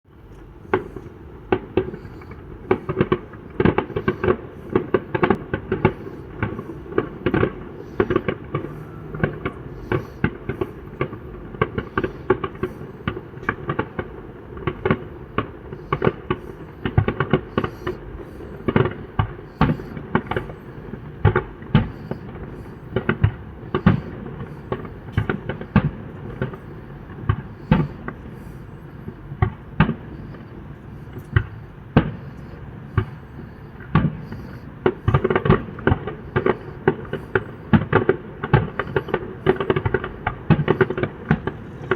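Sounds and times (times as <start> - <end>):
steady background noise: 0.1 - 41.9
fireworks bangs: 0.3 - 41.9.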